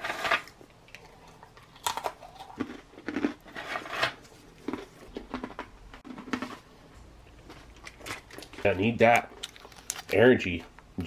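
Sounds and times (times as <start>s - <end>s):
chewing crunchy cracker: 0.2s - 10.2s.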